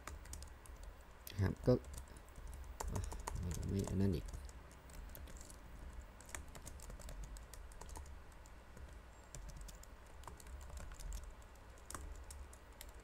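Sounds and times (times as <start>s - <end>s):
keyboard keystrokes: 1.8s - 13.0s.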